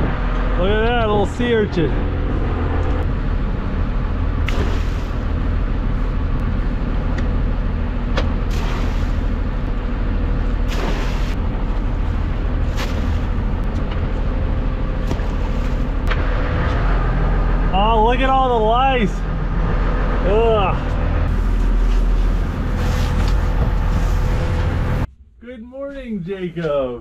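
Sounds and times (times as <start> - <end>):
boat motor rumbling: 0.0 - 25.4.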